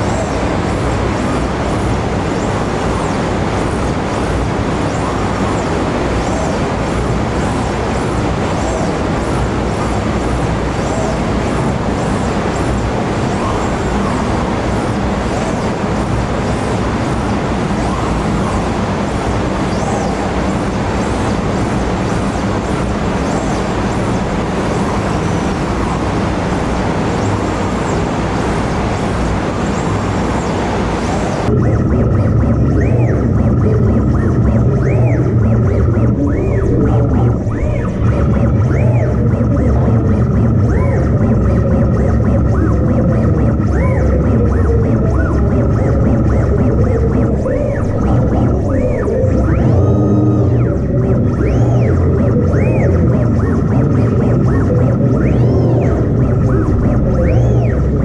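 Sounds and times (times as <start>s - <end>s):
steady static rushing noise: 0.0s - 58.0s.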